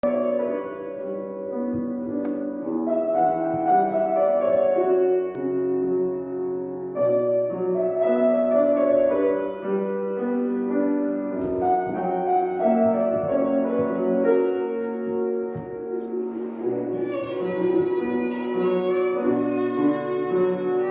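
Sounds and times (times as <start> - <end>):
slow keyboard melody: 0.0 - 20.9.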